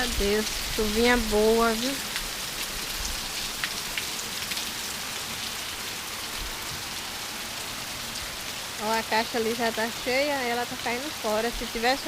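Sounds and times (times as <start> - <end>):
light rain hissing: 0.0 - 12.0.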